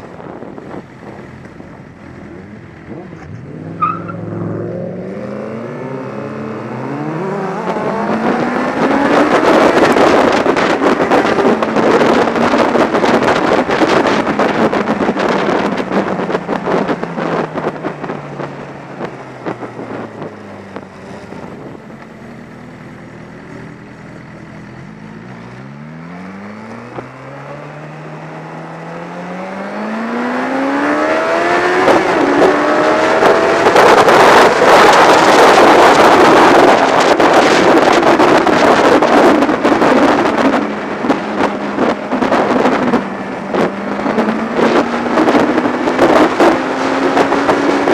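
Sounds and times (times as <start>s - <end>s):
wind rush on microphone: 0.0s - 25.3s, 26.3s - 47.9s
motorcycle engine accelerating: 0.0s - 47.9s.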